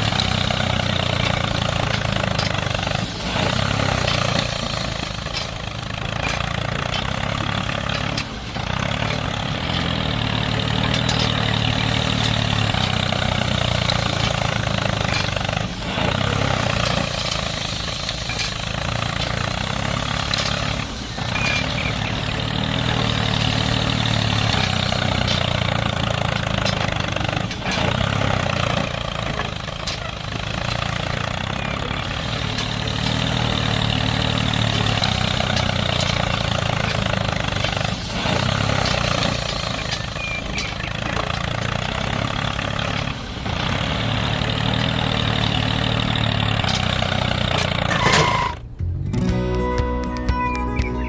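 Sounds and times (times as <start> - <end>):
heavy machine engine running: 0.0 - 50.0.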